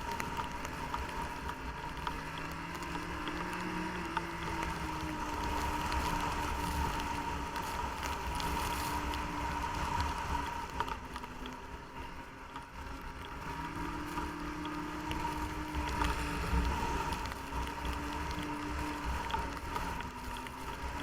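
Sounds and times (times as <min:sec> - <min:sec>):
snowmobile engine whining: 0:00.0 - 0:21.0.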